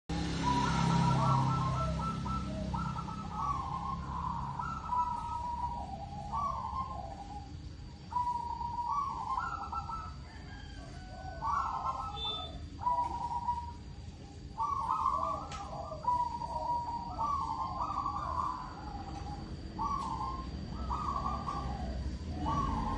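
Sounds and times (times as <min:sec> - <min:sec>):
dove cooing: 0:00.1 - 0:22.9.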